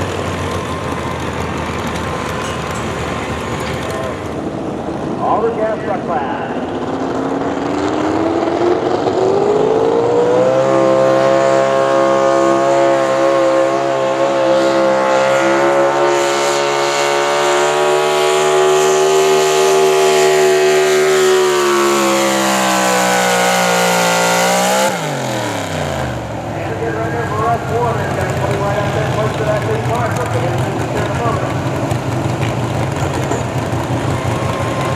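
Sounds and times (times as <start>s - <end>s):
truck engine at full throttle: 0.0s - 34.9s.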